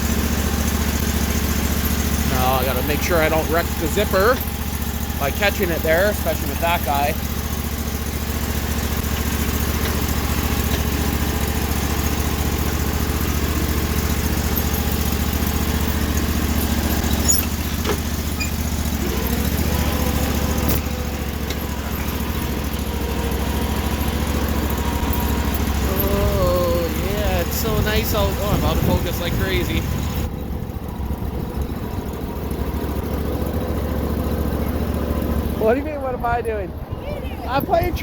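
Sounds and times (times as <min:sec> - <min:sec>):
small engine running: 0:00.0 - 0:38.0.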